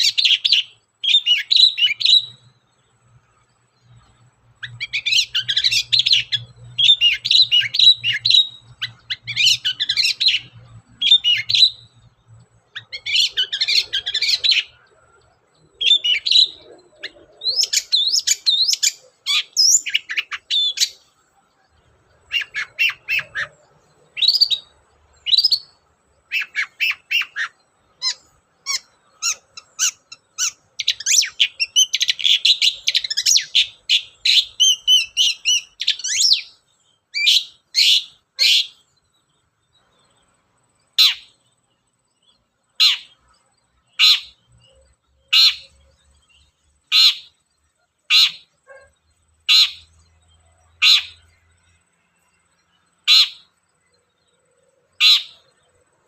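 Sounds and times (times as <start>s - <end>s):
bird harsh chattering song: 0.0s - 56.0s.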